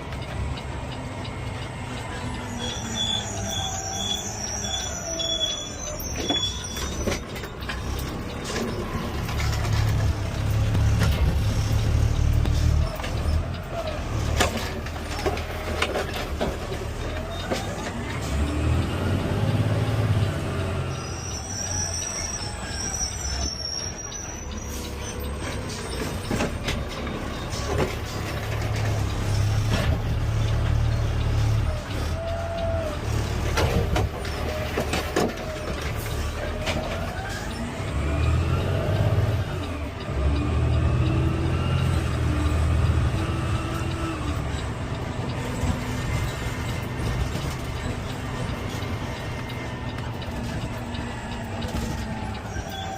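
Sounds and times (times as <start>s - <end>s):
garbage truck engine revving: 0.0s - 52.9s.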